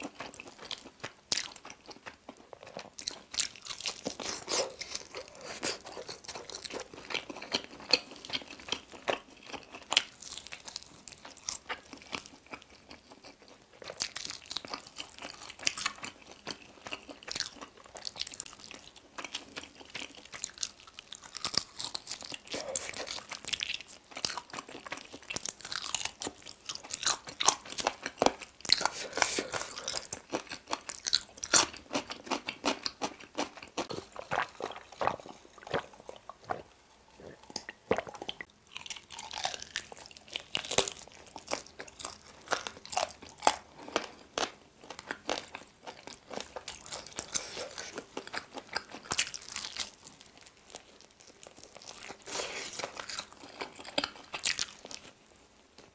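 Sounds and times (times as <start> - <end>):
crunchy chewing: 0.0 - 55.2.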